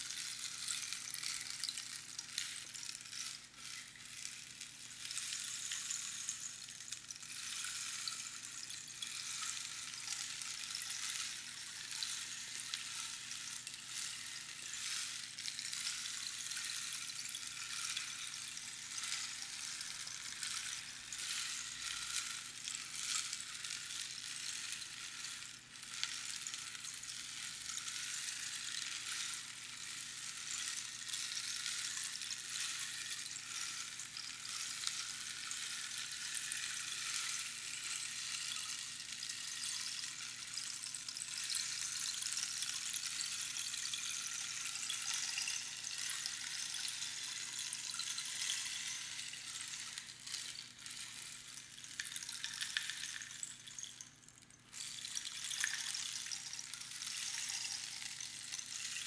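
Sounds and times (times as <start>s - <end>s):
rainstick pebbles trickling: 0.0s - 59.0s.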